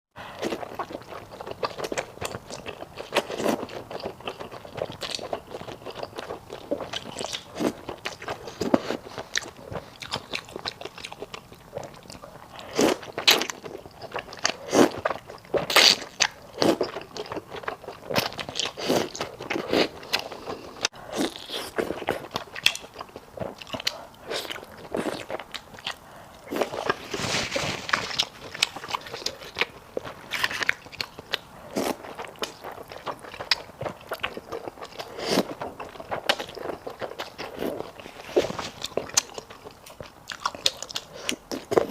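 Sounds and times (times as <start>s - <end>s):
chewing and biting sticky food: 0.2s - 41.9s.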